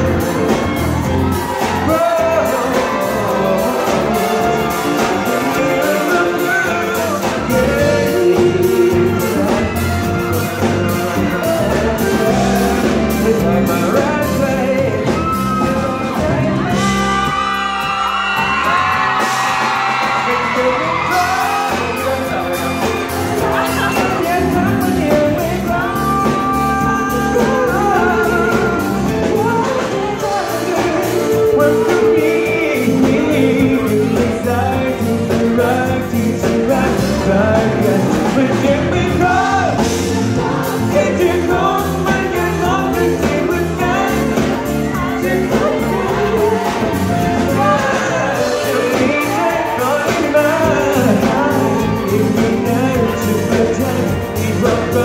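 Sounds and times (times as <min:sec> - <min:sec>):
live band playing: 0:00.0 - 0:55.0
male lead singer: 0:00.0 - 0:55.0.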